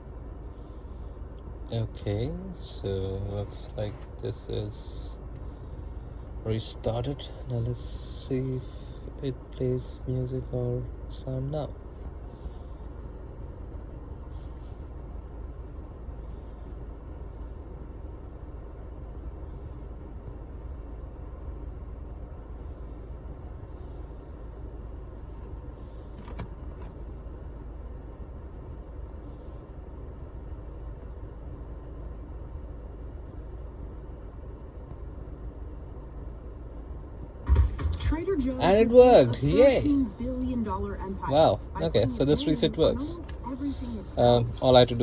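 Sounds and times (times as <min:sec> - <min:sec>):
car cabin low rumble: 0:00.0 - 0:45.0.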